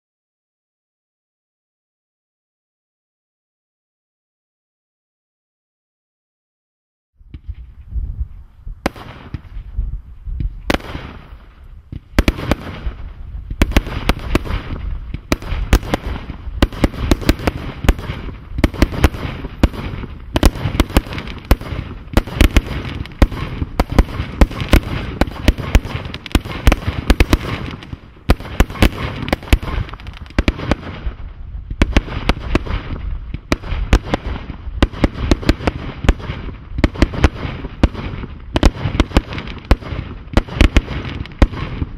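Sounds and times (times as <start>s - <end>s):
firework bangs and crackles: 7.2s - 41.9s.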